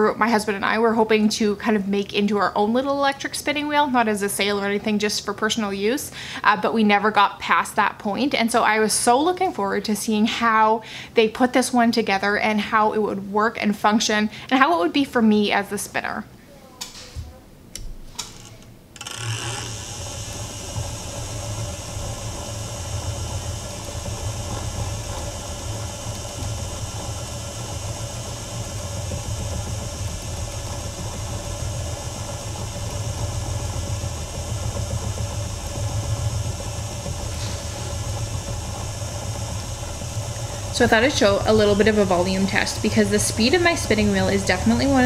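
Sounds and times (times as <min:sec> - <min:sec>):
electric spinning wheel humming: 0:00.0 - 0:16.4, 0:18.2 - 0:45.0.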